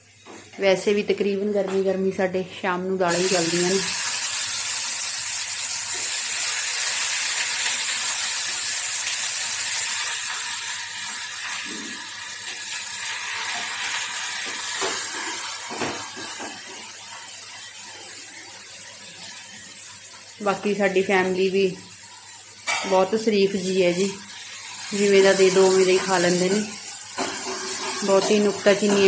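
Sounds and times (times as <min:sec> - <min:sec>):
spices sizzling in hot oil: 0:00.0 - 0:29.0.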